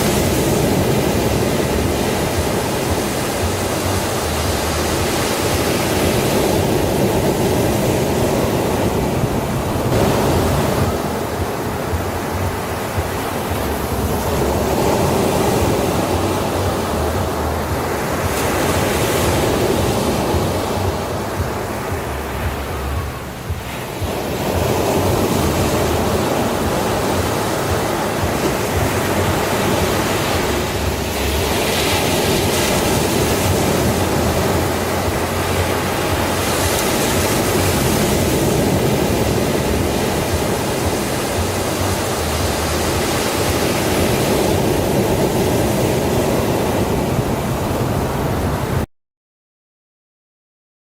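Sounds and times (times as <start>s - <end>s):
waves washing onto beach: 0.0s - 48.9s.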